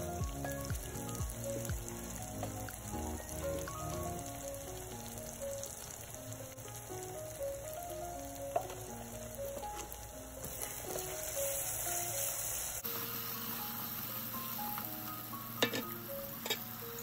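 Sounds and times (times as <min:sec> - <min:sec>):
background music: 0:00.0 - 0:17.0
vegetables sizzling in oil: 0:00.0 - 0:17.0.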